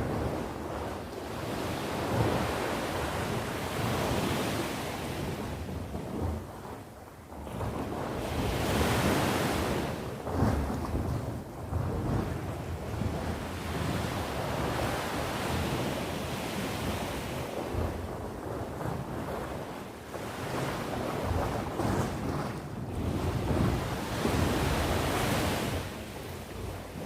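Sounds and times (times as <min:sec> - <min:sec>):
ocean waves breaking on shore: 0:00.0 - 0:27.0
wind buffeting microphone: 0:00.0 - 0:27.0.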